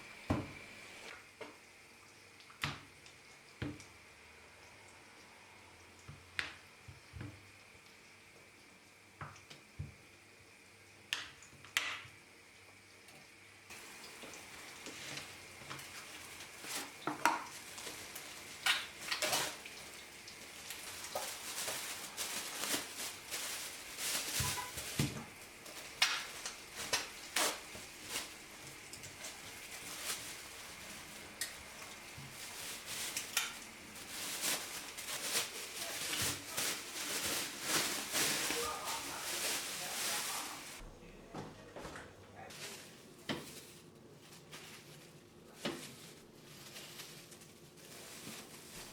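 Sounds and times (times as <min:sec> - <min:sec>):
food sizzling in a frying pan: 0:00.0 - 0:40.8.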